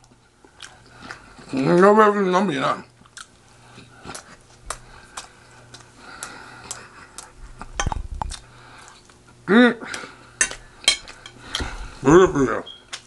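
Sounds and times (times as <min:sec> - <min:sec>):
chewing sounds: 0:00.0 - 0:01.9, 0:02.8 - 0:11.6.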